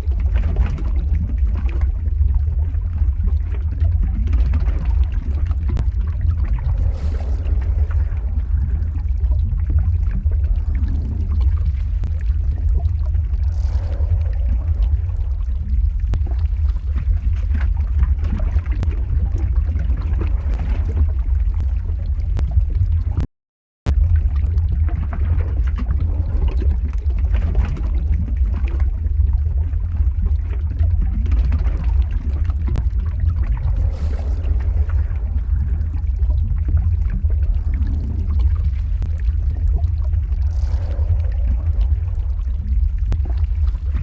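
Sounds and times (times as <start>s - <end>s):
crackles: 0.0s - 23.3s, 23.9s - 44.0s
deep lava rumble: 0.0s - 44.0s.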